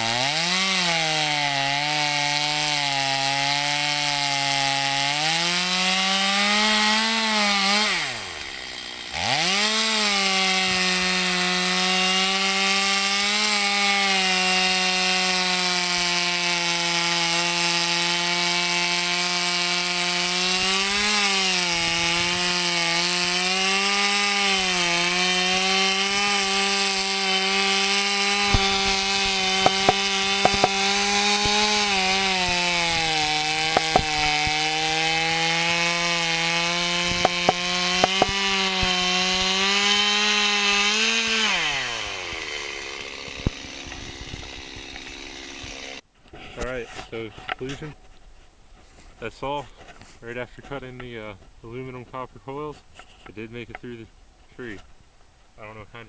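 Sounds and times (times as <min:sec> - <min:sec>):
chainsaw cutting tree trunk: 0:00.0 - 0:46.1.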